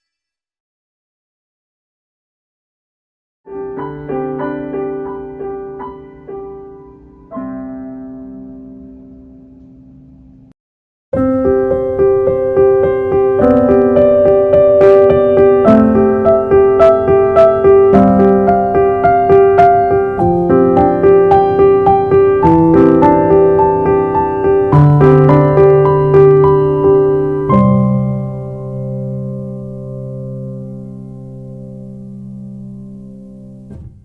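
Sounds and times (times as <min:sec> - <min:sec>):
piano playing: 0:03.5 - 0:10.2, 0:11.2 - 0:34.0.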